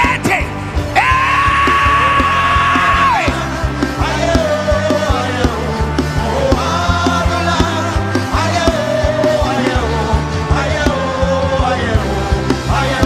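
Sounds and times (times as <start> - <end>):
bass: 0.0 - 13.0
drum beat: 0.0 - 13.0.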